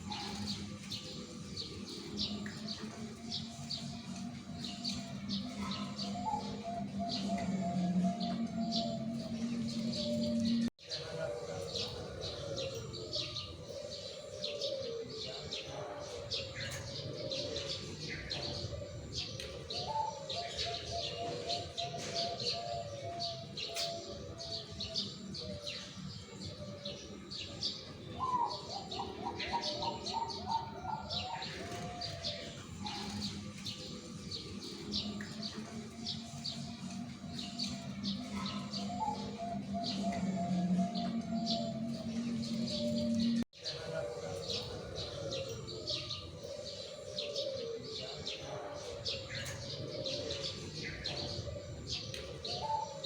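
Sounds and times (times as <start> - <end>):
doves cooing: 0.0 - 53.0
small birds chirping: 0.0 - 53.0.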